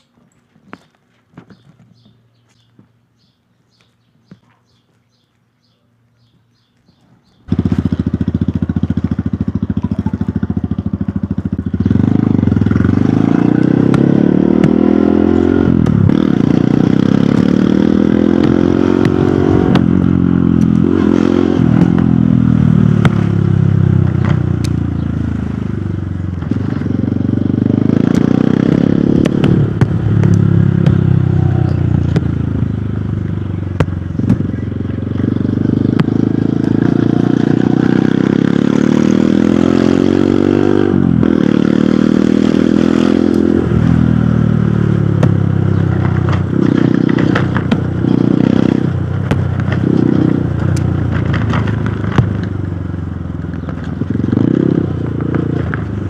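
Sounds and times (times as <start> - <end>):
motorcycle engine accelerating: 7.2 - 56.0.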